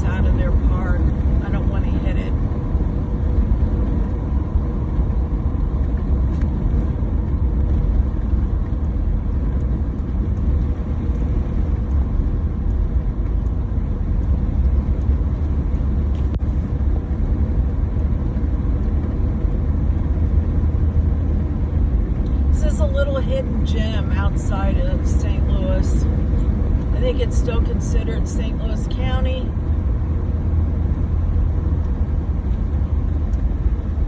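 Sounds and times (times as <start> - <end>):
van engine and road rumble: 0.0 - 34.0.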